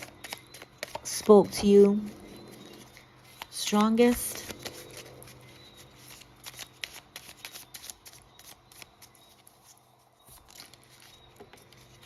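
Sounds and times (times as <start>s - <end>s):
cards shuffling: 0.0s - 12.0s
faint card handling: 0.0s - 12.0s.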